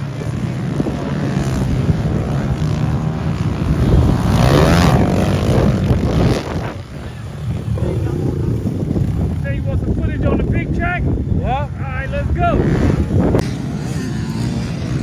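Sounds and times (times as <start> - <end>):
motorbike revving past: 0.0 - 9.6, 12.1 - 15.0
motorbike engines racing: 0.0 - 15.0.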